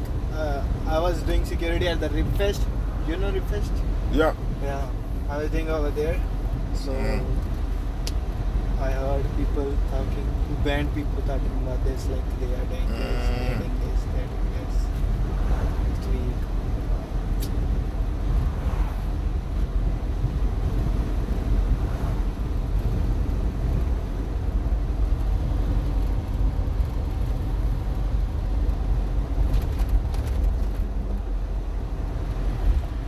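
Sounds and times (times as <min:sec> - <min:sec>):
vehicle engine and tyre rumble: 0:00.0 - 0:33.0.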